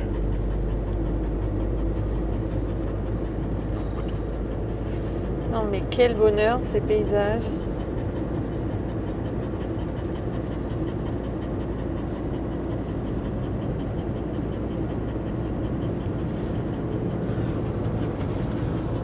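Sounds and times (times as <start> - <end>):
engine and tyre noise inside cab: 0.0 - 19.0.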